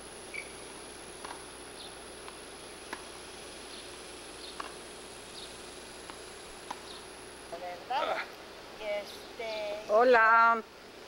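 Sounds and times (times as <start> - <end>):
steady hiss: 0.0 - 11.0
thin high whine: 0.0 - 11.0.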